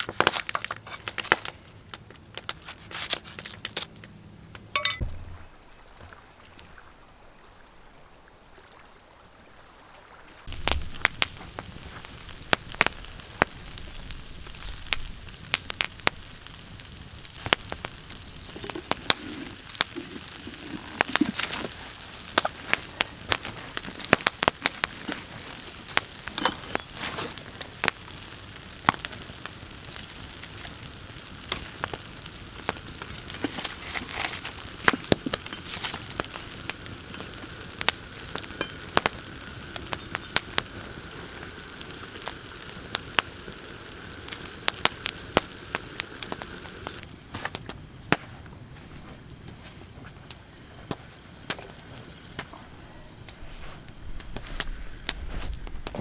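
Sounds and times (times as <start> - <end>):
food sizzling with pops: 0.0 - 6.2, 10.4 - 56.0.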